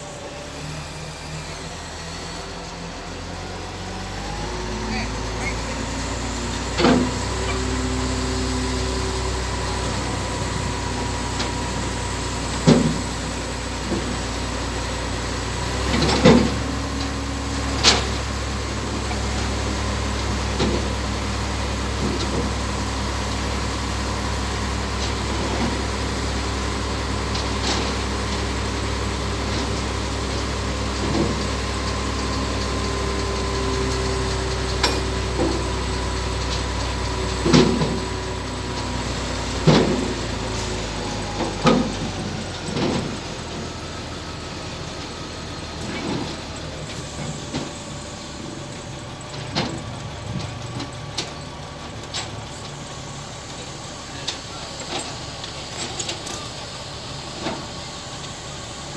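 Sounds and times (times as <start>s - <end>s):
heavy diesel engine idling: 0.0s - 58.9s.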